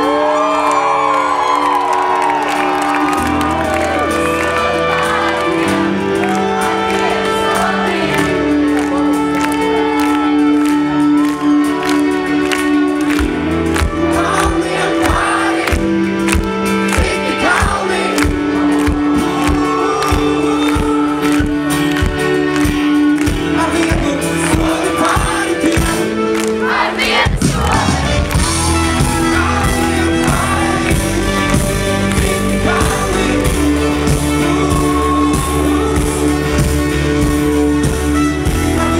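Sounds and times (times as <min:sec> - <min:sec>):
held keyboard chords: 0:00.0 - 0:38.9
pop-rock band playing: 0:00.0 - 0:38.9
person singing: 0:02.9 - 0:38.9.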